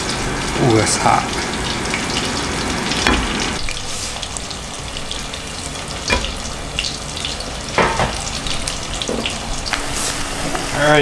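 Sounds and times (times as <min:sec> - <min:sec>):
fish frying in oil: 0:00.0 - 0:11.0
oil crackling: 0:00.0 - 0:11.0.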